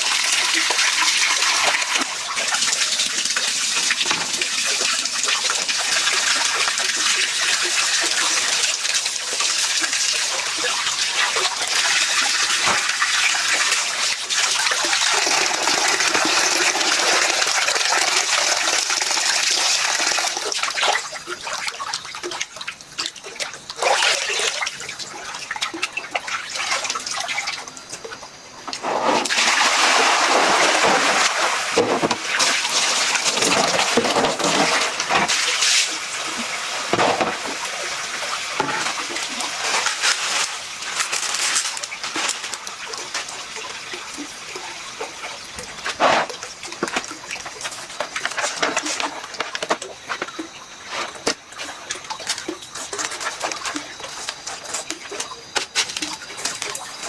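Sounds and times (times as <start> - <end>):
water splashing and sloshing: 0.0 - 57.0.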